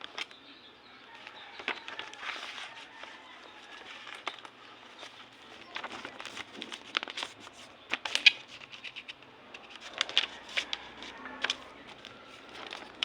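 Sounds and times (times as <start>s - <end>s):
sharp clicks and crackles: 1.2s - 13.0s.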